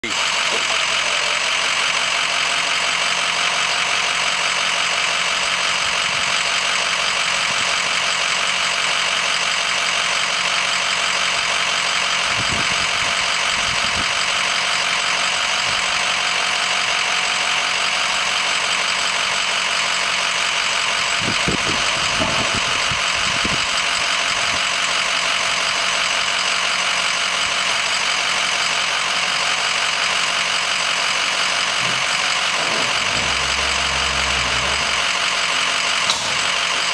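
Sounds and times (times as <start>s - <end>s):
truck engine idling: 0.0s - 36.9s.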